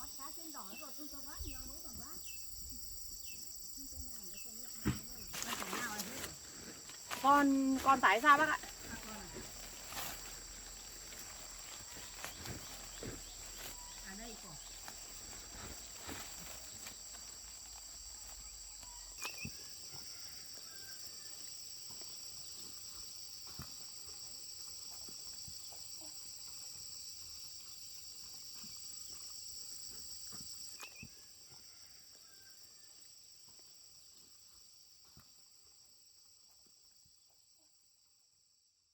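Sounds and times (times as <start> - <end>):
insects trilling: 0.0 - 38.8.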